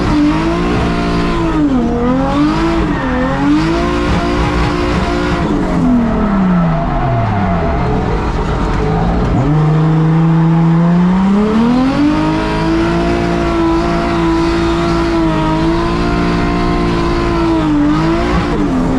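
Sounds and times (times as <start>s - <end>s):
misfiring car engine: 0.0s - 18.9s.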